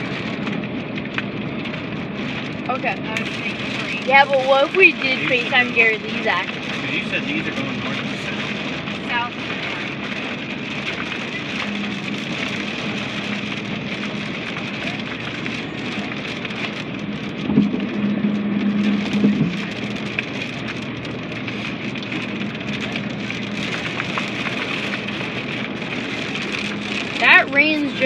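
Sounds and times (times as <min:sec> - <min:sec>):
heavy rain on a car: 0:00.0 - 0:28.0
low steady hum: 0:00.0 - 0:28.0.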